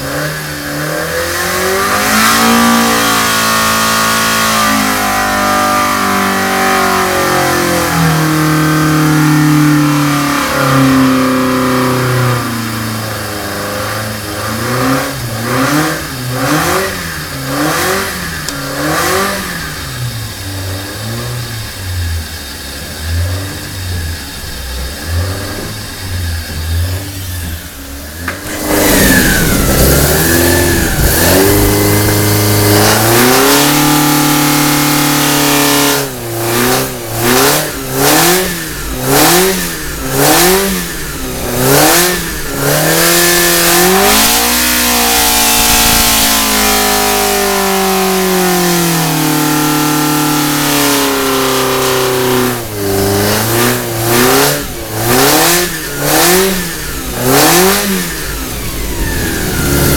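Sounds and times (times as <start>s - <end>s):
race engine revving: 0.0s - 59.9s.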